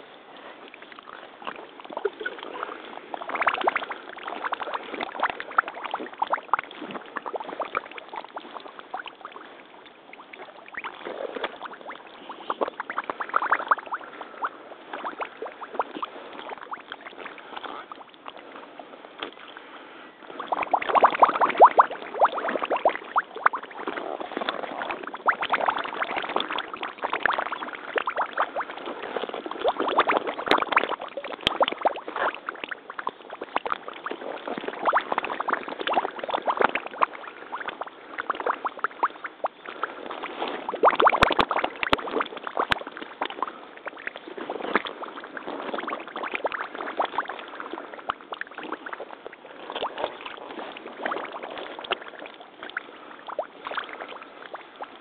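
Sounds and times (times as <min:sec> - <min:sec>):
water splashing around wading boots: 0:00.0 - 0:55.0.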